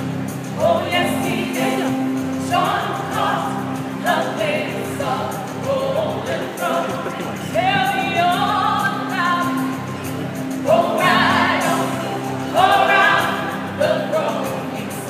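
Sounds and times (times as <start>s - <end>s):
group singing a cappella: 0.6s - 15.0s.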